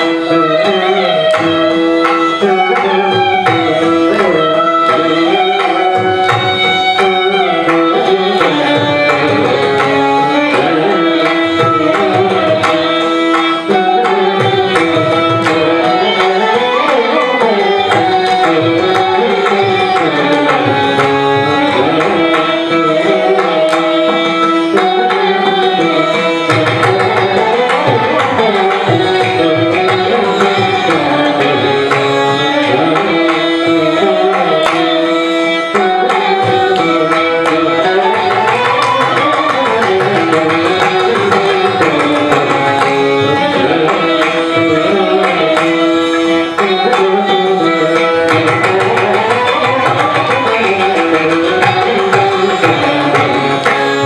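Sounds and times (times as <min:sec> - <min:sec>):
flute: 0:00.0 - 0:54.0
mridangam strokes: 0:00.0 - 0:54.0
violin: 0:00.0 - 0:54.0.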